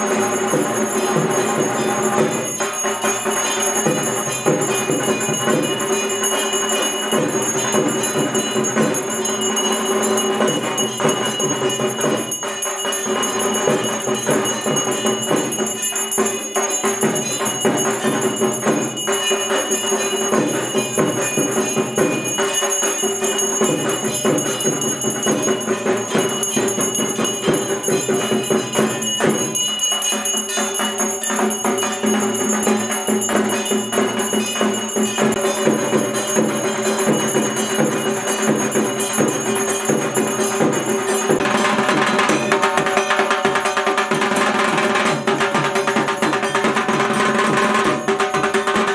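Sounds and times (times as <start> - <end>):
brass hand bell ringing: 0.0 - 48.9
fast rhythmic percussion: 0.0 - 48.9.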